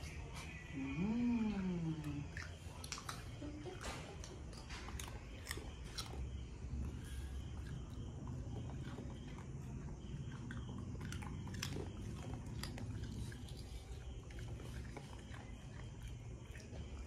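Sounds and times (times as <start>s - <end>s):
dog chewing and crunching treat: 0.0s - 17.0s.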